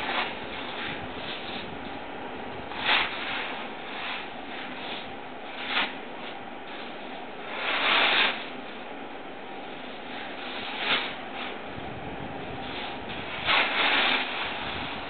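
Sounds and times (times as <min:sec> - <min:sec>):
compost turner churning: 0:00.0 - 0:15.0.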